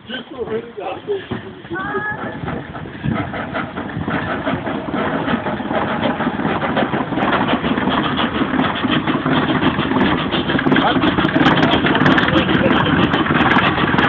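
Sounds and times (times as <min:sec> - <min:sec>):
steam locomotive exhaust puffing: 0:01.0 - 0:14.0.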